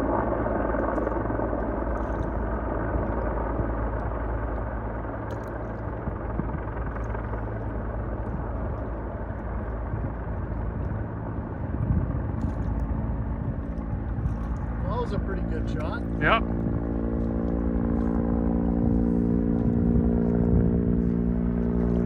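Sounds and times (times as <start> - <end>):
helicopter engine and rotor: 0.0 - 22.0
idling boat outboard hum: 0.0 - 22.0.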